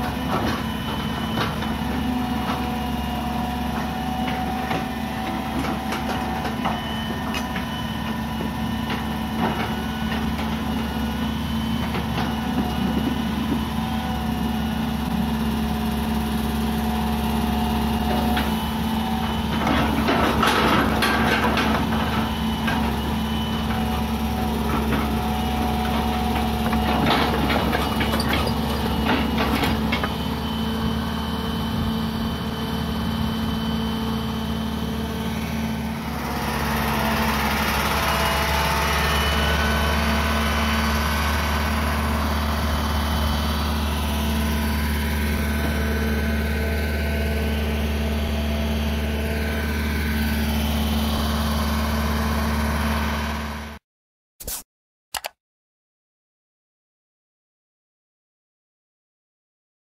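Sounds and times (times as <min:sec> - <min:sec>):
excavator diesel engine running: 0:00.0 - 0:53.8.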